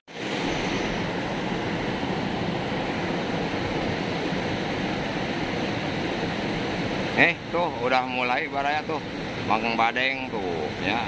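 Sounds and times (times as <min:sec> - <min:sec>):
river rushing over rocks: 0:00.1 - 0:11.0.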